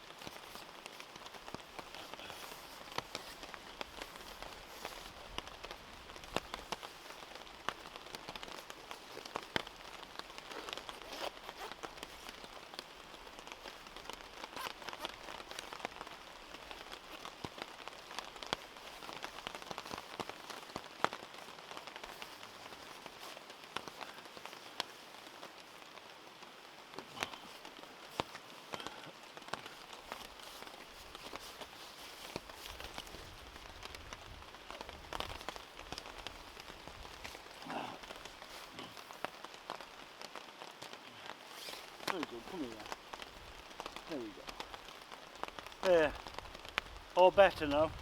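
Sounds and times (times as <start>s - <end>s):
raindrops tapping a surface: 0.0s - 48.0s
steady rain falling: 0.0s - 48.0s.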